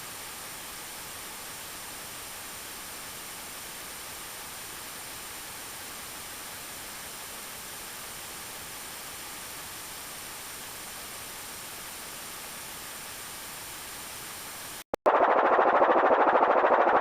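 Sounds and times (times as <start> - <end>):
steady hiss of rainfall: 0.0 - 14.8.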